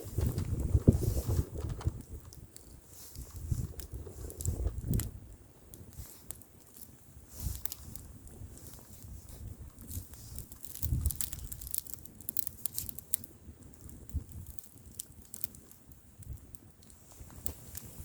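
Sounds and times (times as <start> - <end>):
bonfire crackling and popping: 0.0 - 18.0
wind rumbling on microphone: 0.0 - 18.0.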